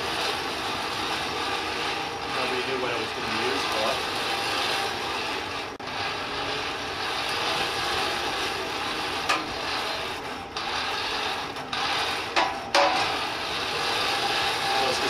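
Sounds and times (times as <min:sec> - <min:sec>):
air rushing through fire: 0:00.0 - 0:15.0
forge blower whirring: 0:00.0 - 0:15.0.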